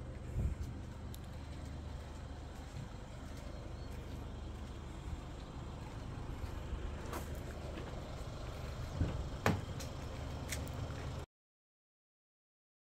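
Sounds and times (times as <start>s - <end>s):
low background rumble: 0.0s - 11.2s.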